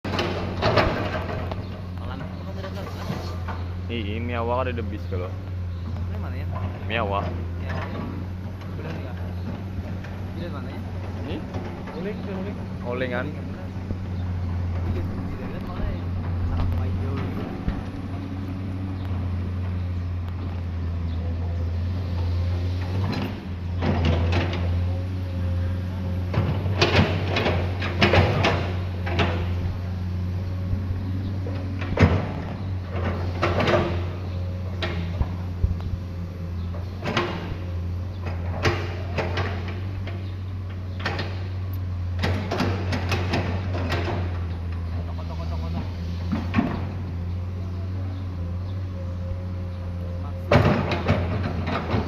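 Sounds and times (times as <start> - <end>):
excavator diesel engine droning: 0.0 - 52.0.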